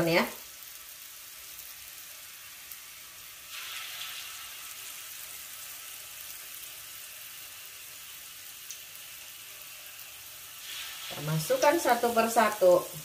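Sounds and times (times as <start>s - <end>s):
deep-frying sizzle in oil: 0.0s - 13.0s.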